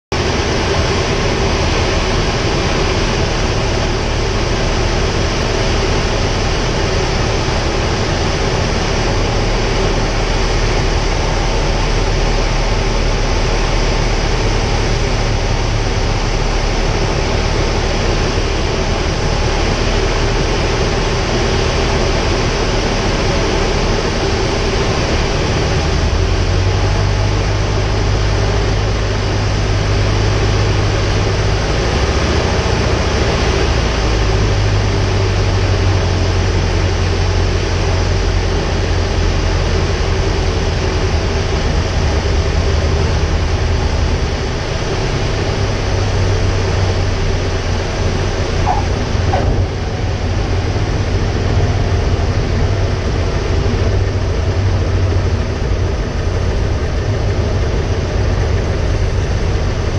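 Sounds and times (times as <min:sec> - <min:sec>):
light plane engine and propeller drone: 0:00.1 - 0:59.9
rushing wind: 0:00.1 - 0:59.9.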